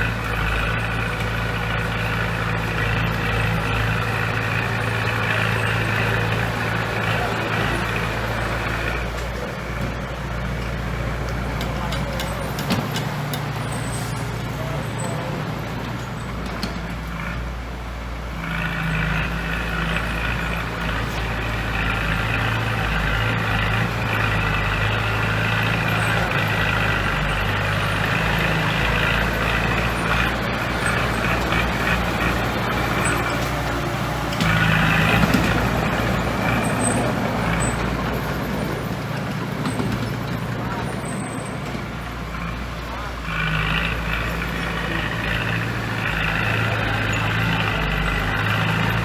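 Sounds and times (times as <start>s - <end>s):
diesel machinery engine running: 0.0s - 49.0s.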